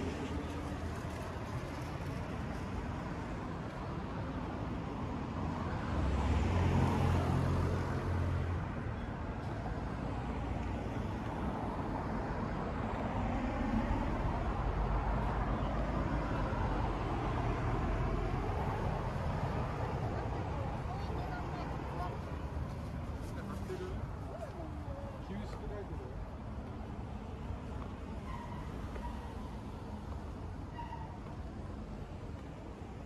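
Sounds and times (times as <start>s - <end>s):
hum of traffic: 0.0s - 33.0s.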